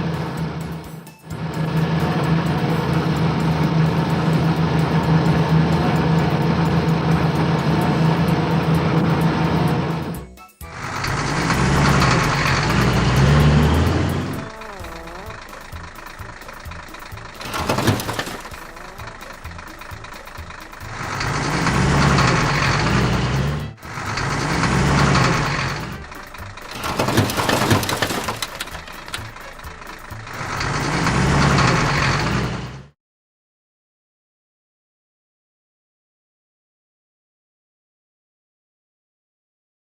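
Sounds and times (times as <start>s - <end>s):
cartoon bus engine rising in pitch: 0.0s - 33.0s.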